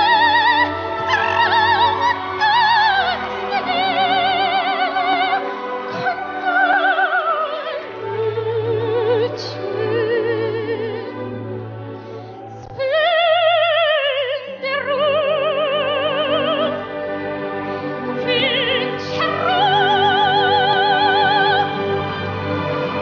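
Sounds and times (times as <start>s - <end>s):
girl singing opera: 0.0s - 11.4s, 12.5s - 16.8s, 18.1s - 21.8s.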